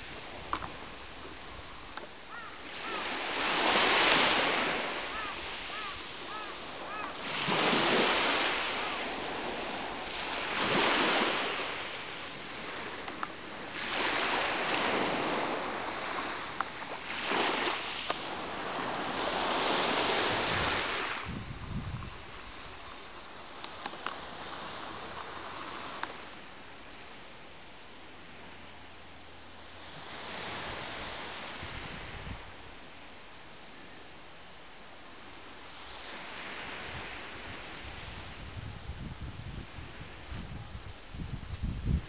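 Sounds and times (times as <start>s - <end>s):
sea waves washing onto beach: 0.0s - 27.2s, 29.6s - 33.2s, 35.3s - 42.0s.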